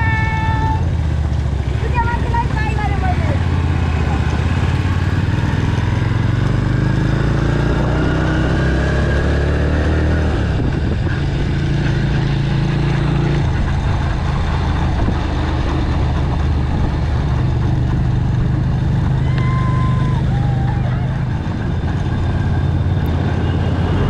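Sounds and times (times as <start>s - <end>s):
vehicle engine accelerating: 0.0s - 24.0s.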